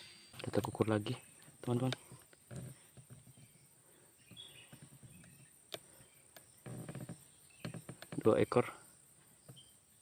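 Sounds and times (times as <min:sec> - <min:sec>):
bird chirp: 0:00.0 - 0:10.0
high insect drone: 0:00.0 - 0:10.0.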